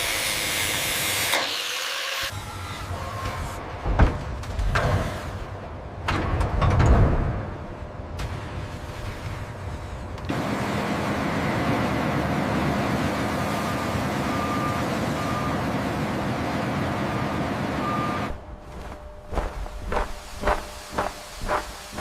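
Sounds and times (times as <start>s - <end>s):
heavy machinery noise: 0.0s - 22.0s.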